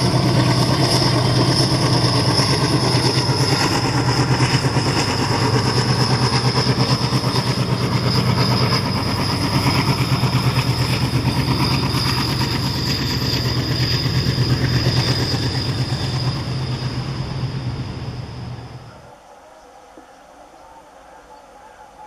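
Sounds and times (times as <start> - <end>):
train wheels rumbling on rails: 0.0 - 19.1
diesel engines droning: 0.0 - 19.2
thin high whine: 0.0 - 22.0.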